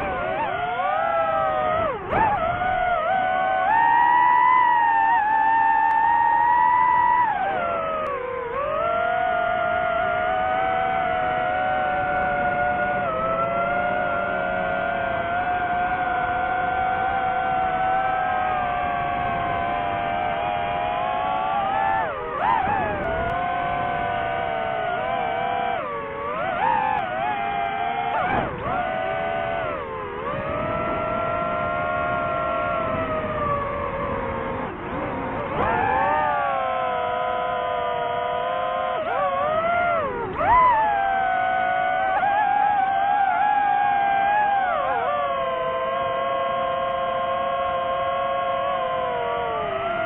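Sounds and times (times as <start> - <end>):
drone propellers whining: 0.0 - 50.0.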